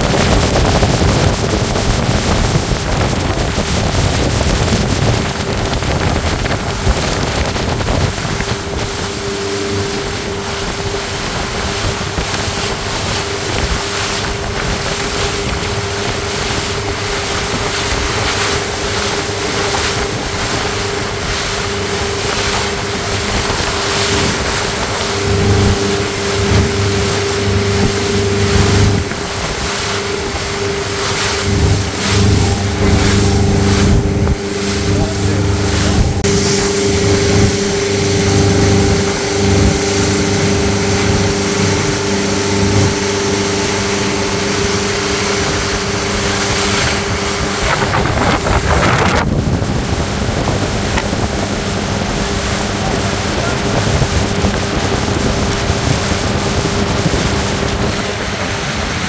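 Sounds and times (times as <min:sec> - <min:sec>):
deeper hum: 0:00.0 - 0:59.0
motorboat engine running: 0:00.0 - 0:59.0
water rushing and splashing: 0:00.0 - 0:59.0
wind buffeting microphone: 0:00.0 - 0:59.0.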